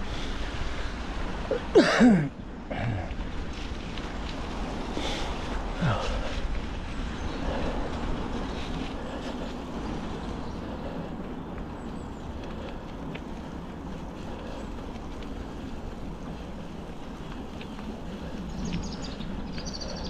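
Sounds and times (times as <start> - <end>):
bike tyres rumbling and rattling: 0.0 - 20.0.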